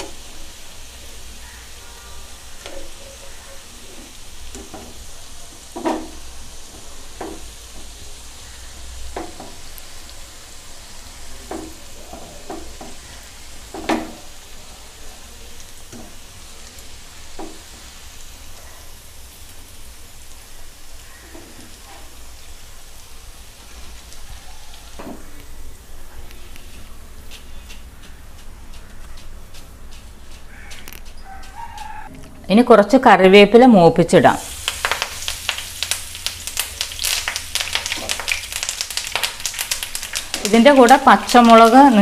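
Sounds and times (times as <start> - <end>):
food deep-frying in oil: 0.0 - 42.0.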